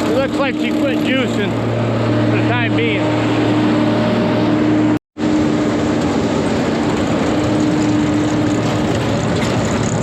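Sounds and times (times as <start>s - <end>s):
silage bagging machine drone: 0.0s - 10.0s.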